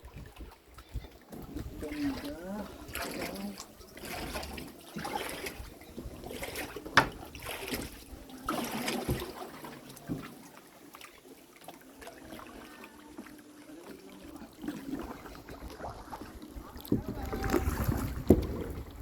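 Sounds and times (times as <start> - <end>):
water splashing off paddle strokes: 0.0 - 19.0.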